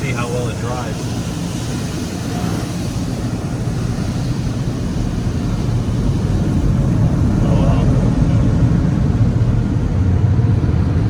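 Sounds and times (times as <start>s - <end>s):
car wash air dryer blowers: 0.0s - 11.0s.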